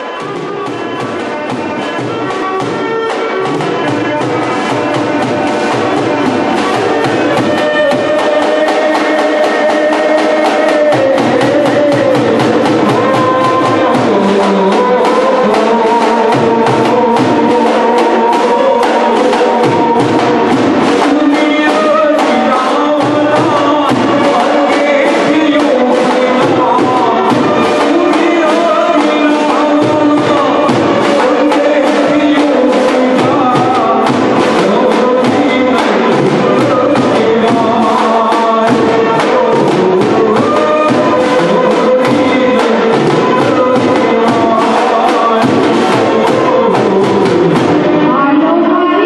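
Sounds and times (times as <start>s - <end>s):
fast drum beat: 0.0s - 48.1s
held instrumental notes: 0.0s - 49.0s
man singing through microphone: 0.0s - 49.0s.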